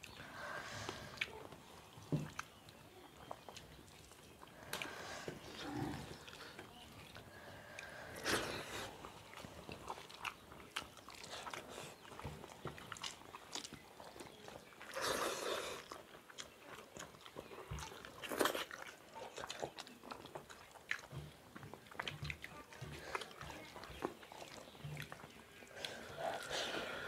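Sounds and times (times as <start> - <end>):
people chewing and biting: 0.0 - 27.0.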